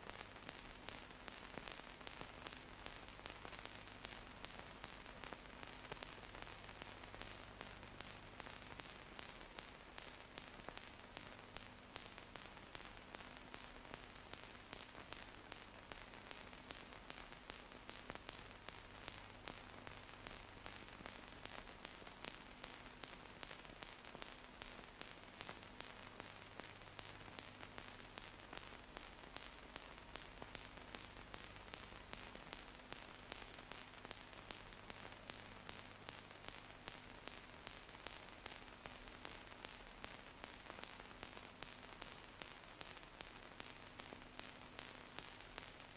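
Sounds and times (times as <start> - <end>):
film soundtrack hiss: 0.0 - 45.9.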